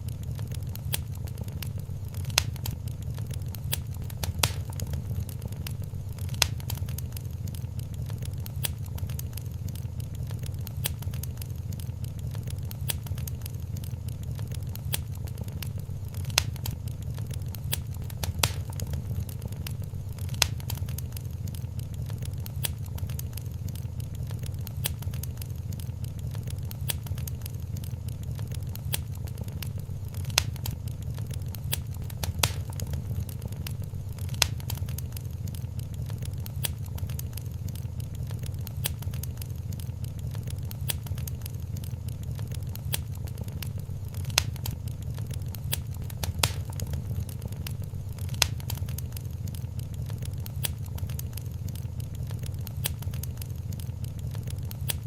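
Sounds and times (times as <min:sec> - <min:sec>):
sharp fire pops: 0:00.0 - 0:55.0
wood fire crackling: 0:00.0 - 0:55.0.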